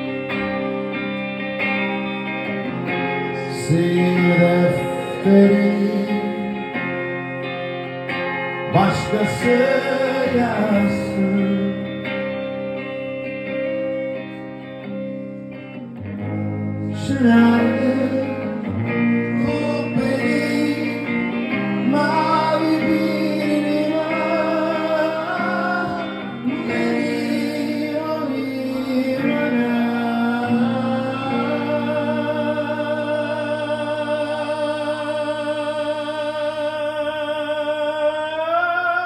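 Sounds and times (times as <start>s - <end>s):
wordless vocal melody: 0.0s - 13.0s, 15.7s - 39.0s.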